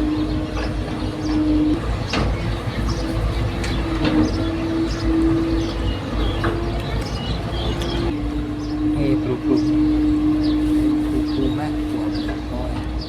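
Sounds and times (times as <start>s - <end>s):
birds chirping faintly: 0.0s - 13.0s
excavator engine and hydraulics: 0.0s - 13.0s.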